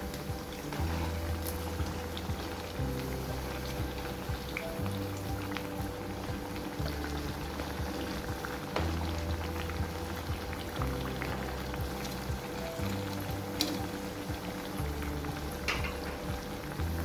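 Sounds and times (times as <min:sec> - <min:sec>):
background music with low notes: 0:00.0 - 0:17.0
liquid bubbling in pot: 0:00.0 - 0:17.0.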